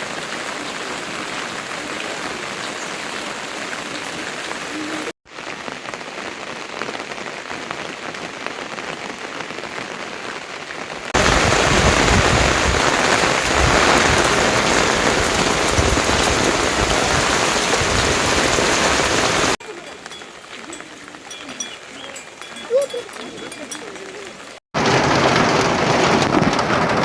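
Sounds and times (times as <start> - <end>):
heavy rain: 0.0 - 27.0
steady rain falling: 0.0 - 27.0.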